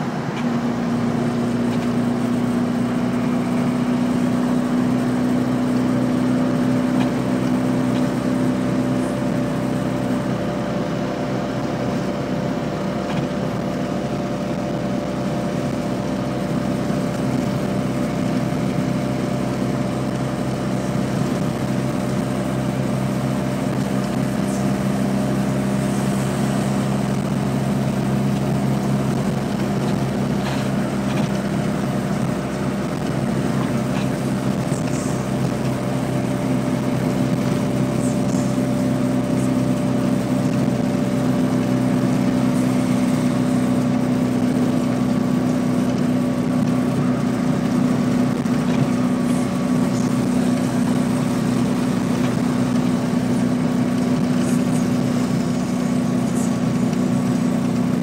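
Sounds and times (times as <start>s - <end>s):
road and wind noise: 0.0s - 58.0s
small car engine droning: 0.0s - 58.0s.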